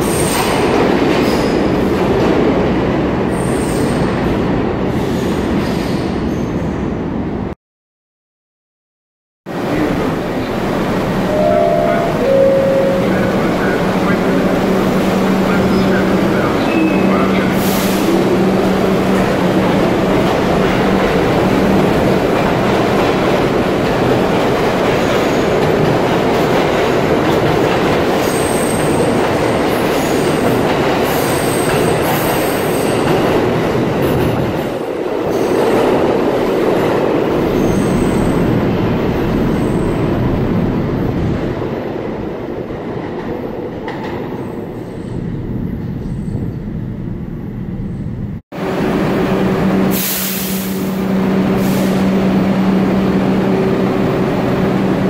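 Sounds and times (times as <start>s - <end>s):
subway train accelerating: 0.0s - 7.6s, 9.5s - 55.0s.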